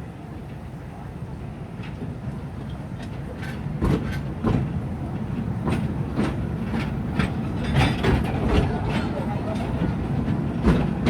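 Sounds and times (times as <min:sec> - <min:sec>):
low train rumble: 0:00.0 - 0:11.0.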